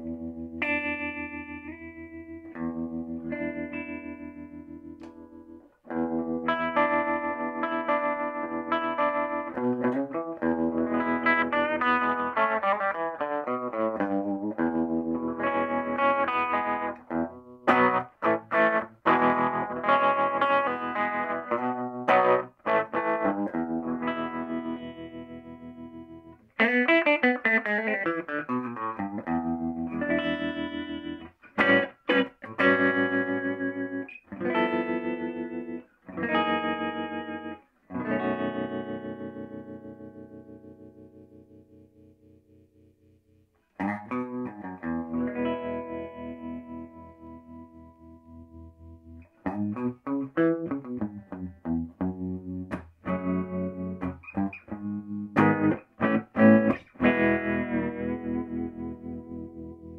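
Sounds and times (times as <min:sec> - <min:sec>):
electric guitar chords with tremolo: 0:00.0 - 0:43.1, 0:43.8 - 0:59.9.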